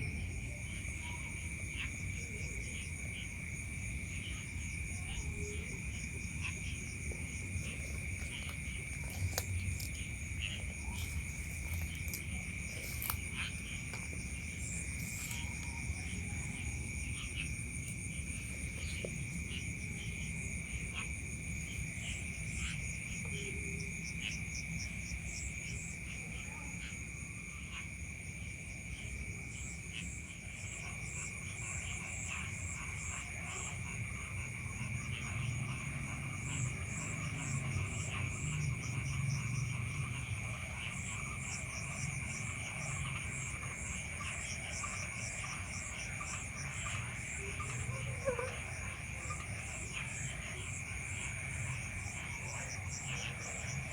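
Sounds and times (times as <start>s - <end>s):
insects chirping: 0.0s - 53.9s
insects trilling: 0.0s - 53.9s.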